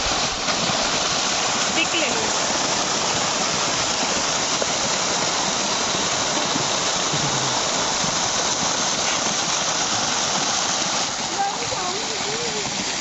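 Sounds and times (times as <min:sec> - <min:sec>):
fountain jets splashing: 0:00.0 - 0:13.0.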